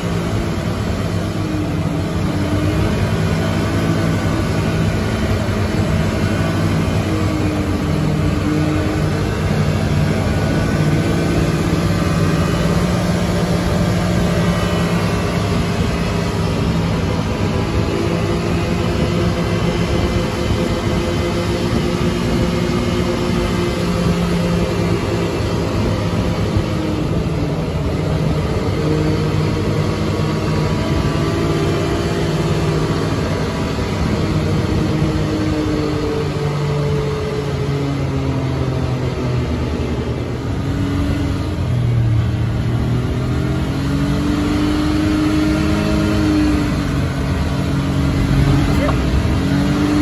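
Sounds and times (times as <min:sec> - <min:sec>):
vehicle engine revving while driving: 0:00.0 - 0:50.0.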